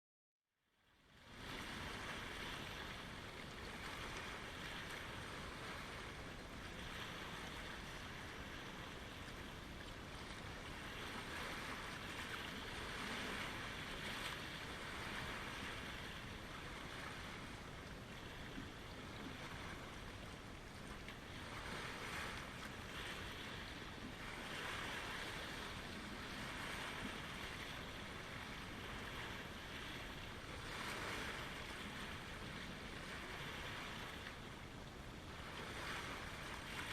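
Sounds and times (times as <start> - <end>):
lake waves washing on shore: 0.9 - 36.9.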